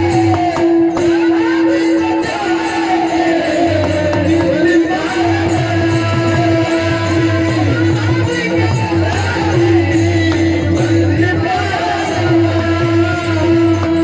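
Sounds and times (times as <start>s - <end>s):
person singing melody: 0.0s - 14.0s
rhythmic drum strokes: 0.0s - 14.0s.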